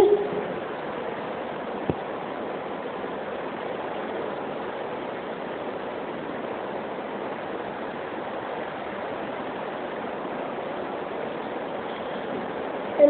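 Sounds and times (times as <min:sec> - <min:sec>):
room noise hiss: 0:00.0 - 0:13.0.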